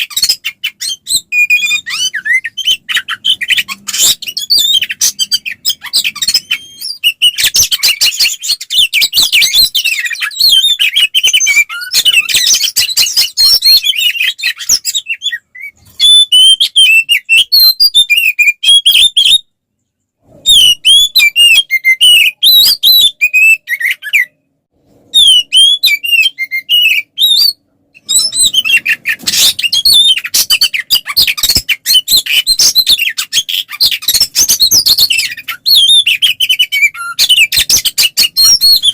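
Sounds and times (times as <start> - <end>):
songbird whistling and trilling: 0.0 - 19.5, 20.4 - 24.4, 25.1 - 38.9.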